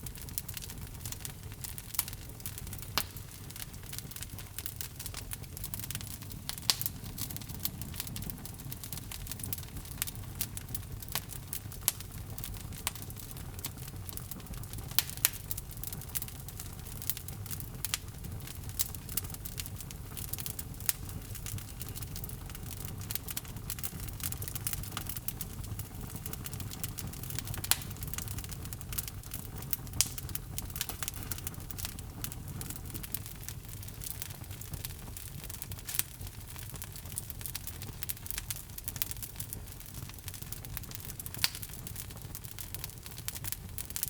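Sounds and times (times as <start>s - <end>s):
burning wood popping and snapping: 0.0s - 44.0s
low rumble of flames: 0.0s - 44.0s.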